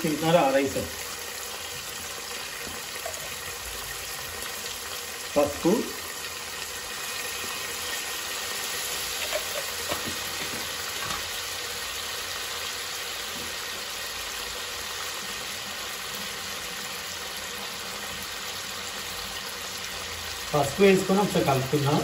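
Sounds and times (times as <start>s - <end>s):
prawns sizzling in hot oil: 0.0s - 22.0s.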